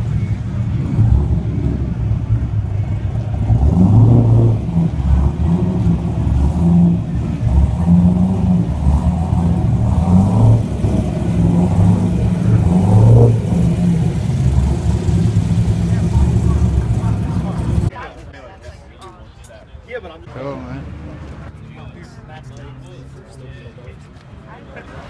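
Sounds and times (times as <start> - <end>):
car engines revving: 0.0 - 17.9, 20.3 - 25.0.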